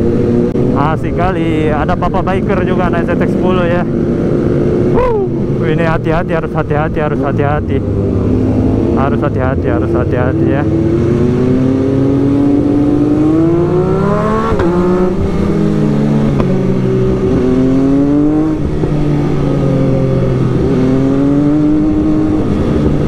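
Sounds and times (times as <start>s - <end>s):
motorcycle engine revving and upshifting: 0.0s - 23.0s.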